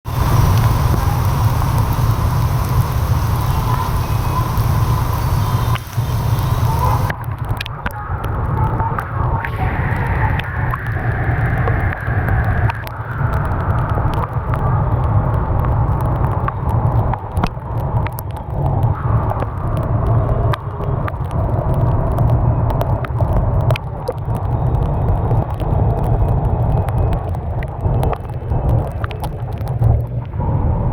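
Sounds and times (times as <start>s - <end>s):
low rumble: 0.0s - 30.9s
rain falling: 0.0s - 30.9s
sharp drips and taps: 0.2s - 9.6s, 10.2s - 30.3s.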